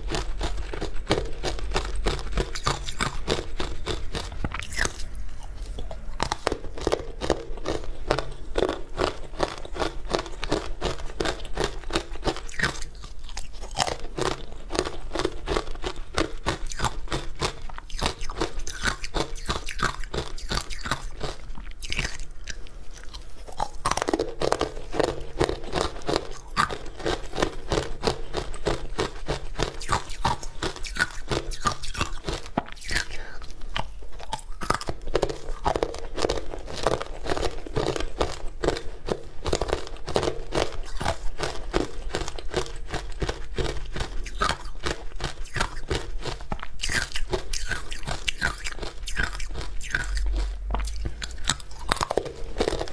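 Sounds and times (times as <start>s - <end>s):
crunching and chewing ice: 0.0s - 52.9s.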